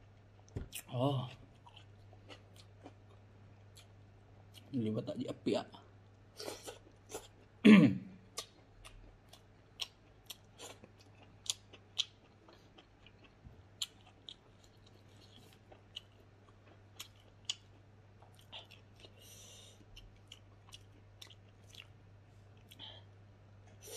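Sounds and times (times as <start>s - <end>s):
chewing with crunches: 0.2s - 4.7s, 8.3s - 23.0s.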